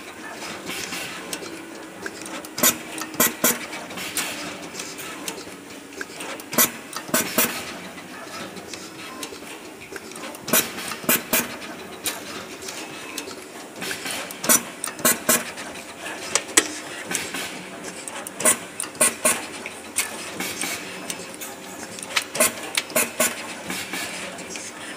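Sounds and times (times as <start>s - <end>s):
sharp machine clacks: 0.0s - 24.7s.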